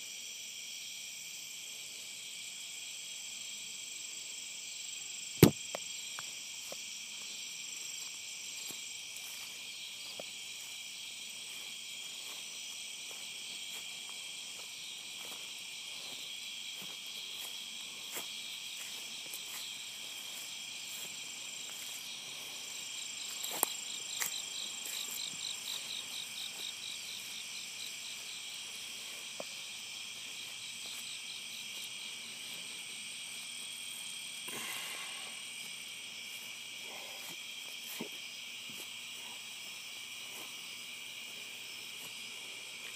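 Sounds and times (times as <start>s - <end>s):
fast pulsing insect call: 0.0s - 42.9s.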